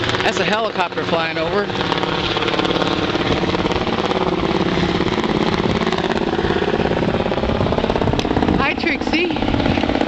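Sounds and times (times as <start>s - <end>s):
helicopter flying over: 0.0s - 10.0s.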